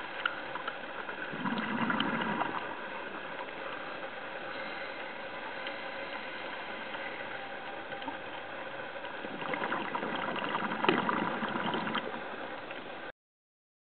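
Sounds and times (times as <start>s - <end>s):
steady underwater hiss: 0.0s - 13.1s.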